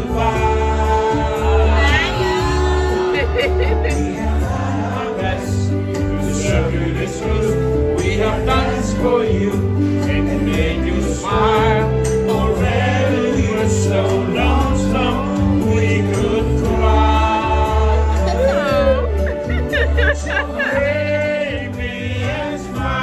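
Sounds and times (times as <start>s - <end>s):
bass line of held notes: 0.0s - 23.0s
person singing: 0.0s - 23.0s.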